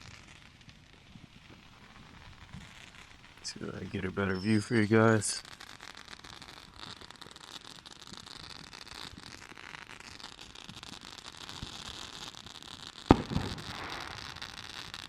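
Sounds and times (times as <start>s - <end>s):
faint steady hiss: 0.0s - 15.0s
fireworks exploding: 0.0s - 15.0s.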